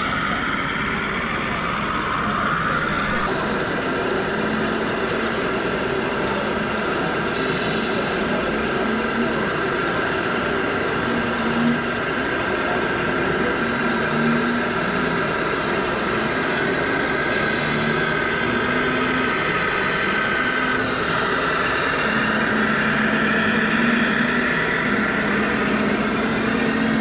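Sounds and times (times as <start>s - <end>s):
small model truck motors whining: 0.0s - 27.0s
steady noisy background: 0.0s - 27.0s.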